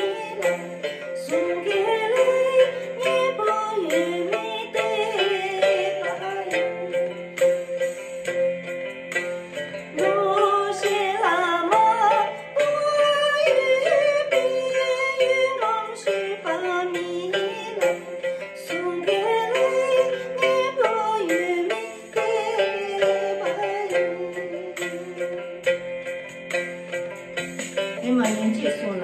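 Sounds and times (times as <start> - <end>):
woman singing into microphone: 0.0 - 7.5, 9.9 - 25.4, 27.9 - 29.0
instrumental backing music with beat: 0.0 - 29.0.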